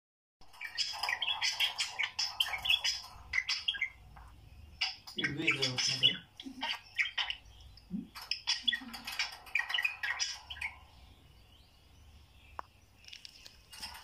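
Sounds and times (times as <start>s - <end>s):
budgerigars chirping: 0.4s - 14.0s.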